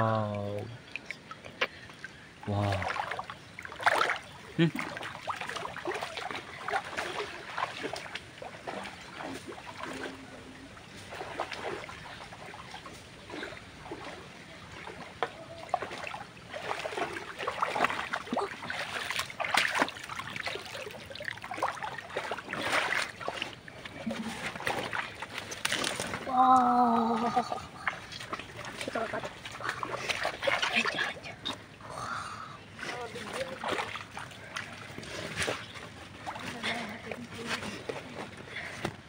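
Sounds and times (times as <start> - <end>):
muddy water splashing: 0.0 - 39.0.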